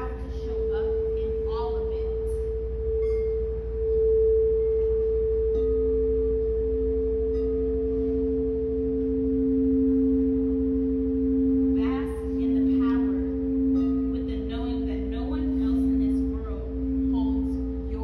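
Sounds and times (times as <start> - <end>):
lower singing bowl tone: 0.0 - 18.0
singing bowl pure tone: 0.0 - 18.0.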